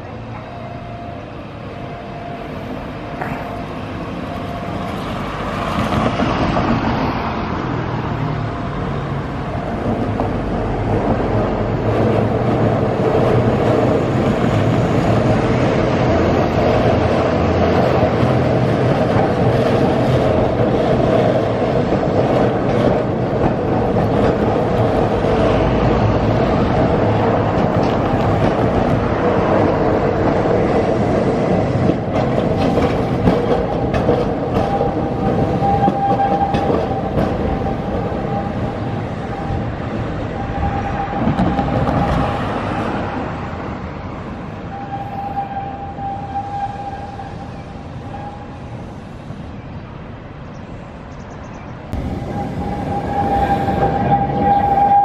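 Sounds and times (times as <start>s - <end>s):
electric train rumbling past: 0.0s - 55.0s.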